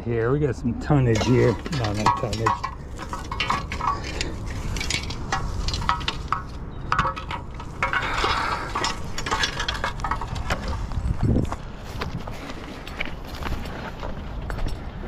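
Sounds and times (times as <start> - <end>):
wind rumble on microphone: 0.0 - 15.0
steel rods clinking and scraping: 0.8 - 14.8.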